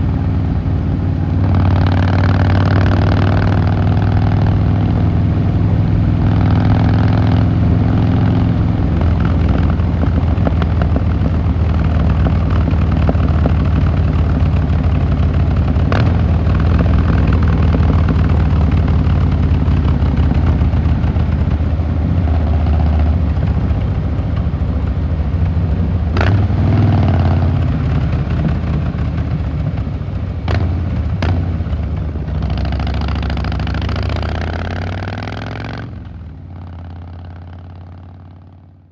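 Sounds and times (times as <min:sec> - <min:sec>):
motorcycle engine and exhaust running: 0:00.0 - 0:38.9.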